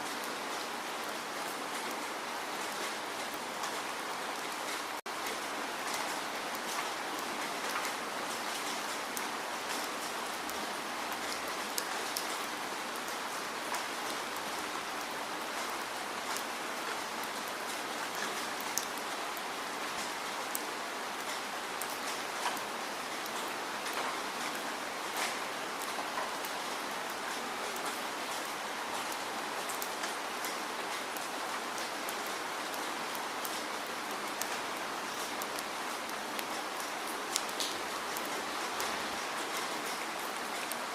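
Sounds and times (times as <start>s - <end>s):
steady rainfall hiss: 0.0s - 40.9s.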